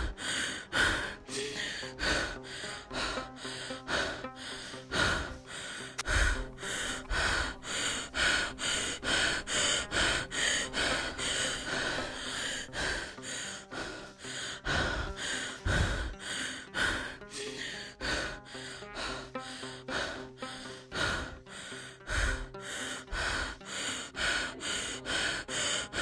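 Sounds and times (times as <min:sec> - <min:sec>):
music with sustained tones: 0:00.0 - 0:26.0
rapid heavy breathing gasps: 0:00.0 - 0:26.0.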